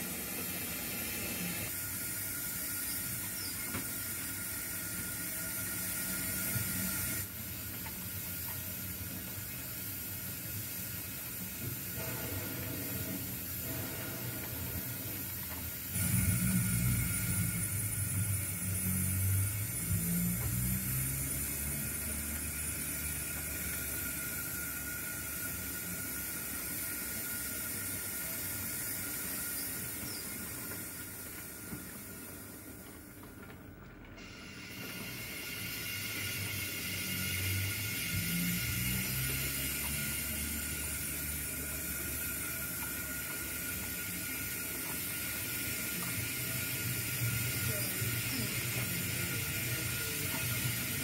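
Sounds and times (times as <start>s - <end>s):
model train wheels rumbling on rail: 0.0s - 51.0s.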